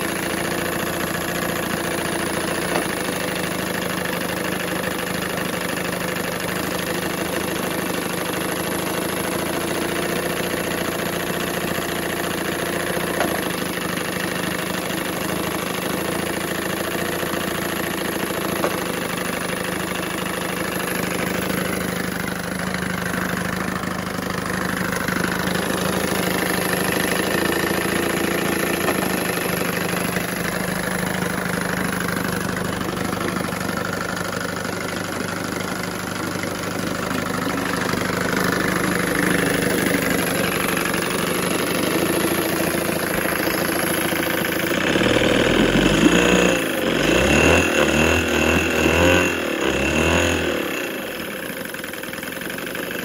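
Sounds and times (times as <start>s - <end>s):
outboard motor running: 0.0s - 53.0s.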